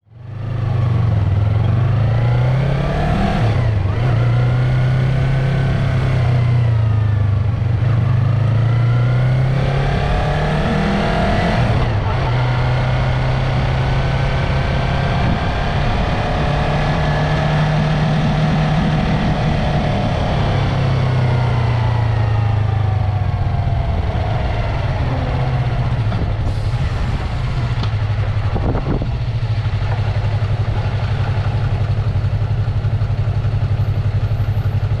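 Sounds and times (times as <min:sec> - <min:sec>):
motorcycle engine revving: 0:00.2 - 0:35.0.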